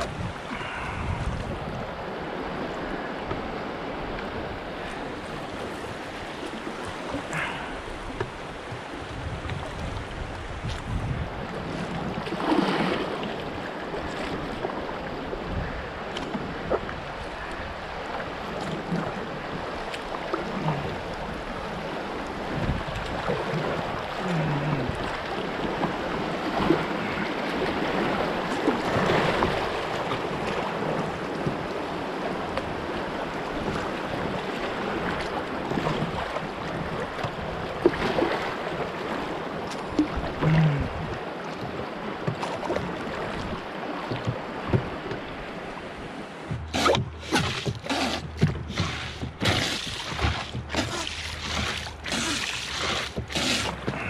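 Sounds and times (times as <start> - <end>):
paddle splashes: 0.0 - 54.0
river water rushing: 0.0 - 54.0.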